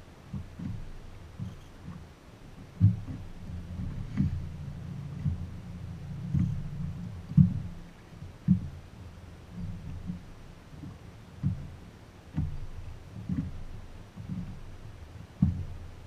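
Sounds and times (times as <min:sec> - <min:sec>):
faint low rumble: 0:00.0 - 0:16.0
waves slapping boat hull: 0:00.0 - 0:16.0.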